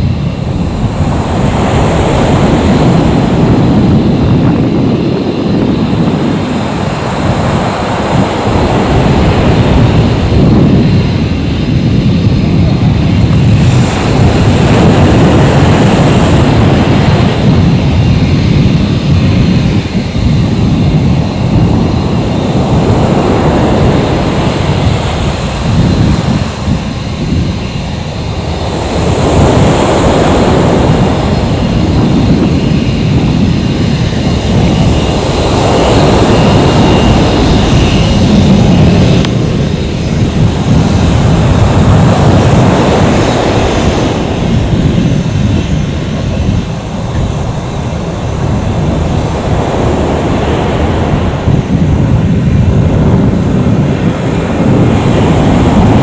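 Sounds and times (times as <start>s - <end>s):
faint high whine: 0.0s - 56.0s
jet engines at taxi power: 0.0s - 56.0s.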